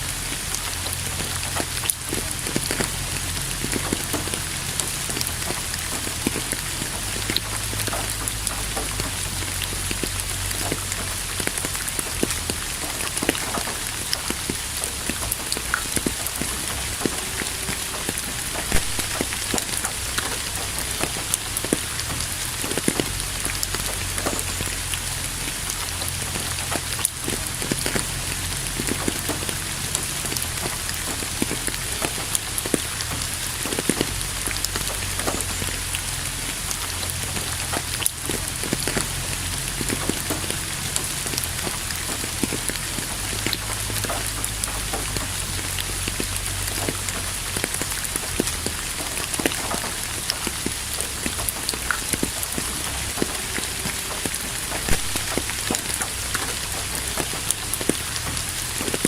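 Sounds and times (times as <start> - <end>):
rain drops splatting: 0.0 - 59.0.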